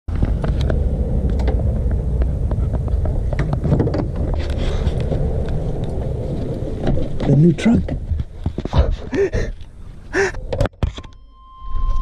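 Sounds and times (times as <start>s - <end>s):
low rumble on microphone: 0.1s - 10.7s.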